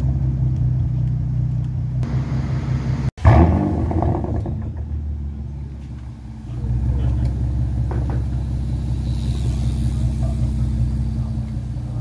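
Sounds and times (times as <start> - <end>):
car engine idling: 0.0 - 12.0
engine revving: 0.0 - 12.0.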